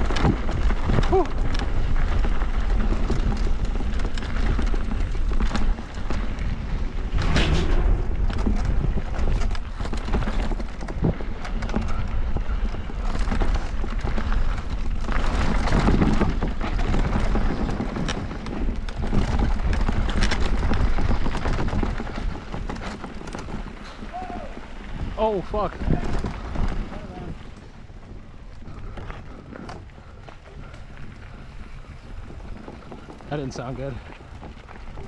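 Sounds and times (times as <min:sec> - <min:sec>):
wind rushing over microphone: 0:00.0 - 0:33.1
bike knocking and rattling: 0:00.0 - 0:35.0
tyres rumbling on dirt: 0:00.0 - 0:35.0.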